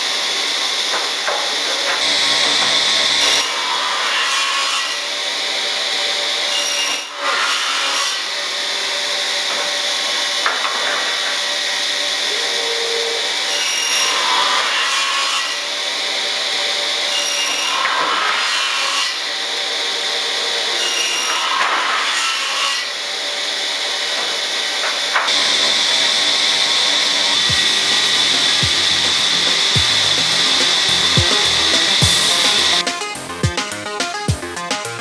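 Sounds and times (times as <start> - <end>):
circular saws whining: 0.0 - 35.0.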